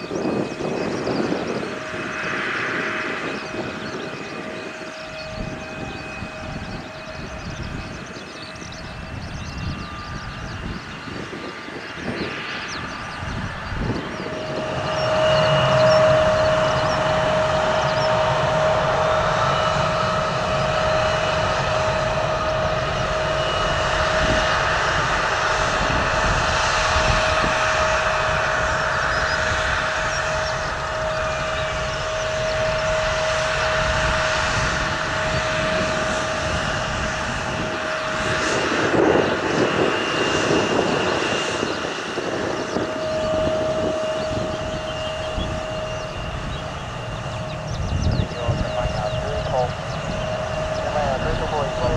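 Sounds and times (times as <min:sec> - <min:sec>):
jet engines whining: 0:00.0 - 0:51.9
wind rumbling on microphone: 0:00.0 - 0:51.9.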